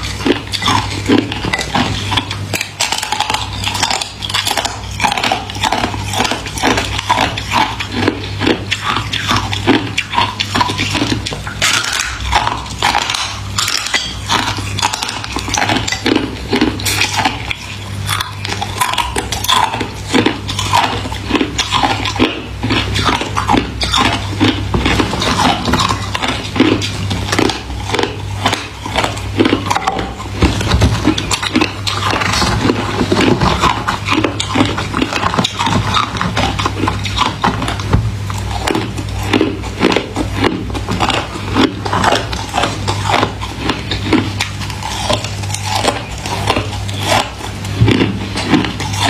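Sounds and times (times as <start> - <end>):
chewing ice crunches: 0.0 - 49.0
steady low hum: 0.0 - 49.0.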